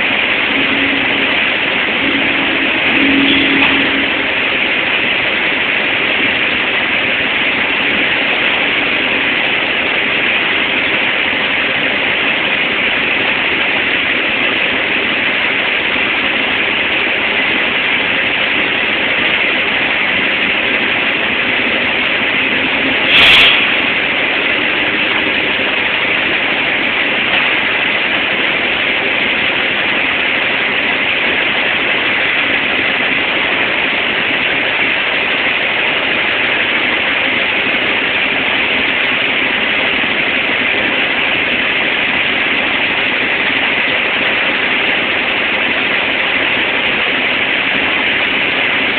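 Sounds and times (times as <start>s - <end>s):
machinery hissing roar: 0.0s - 48.9s.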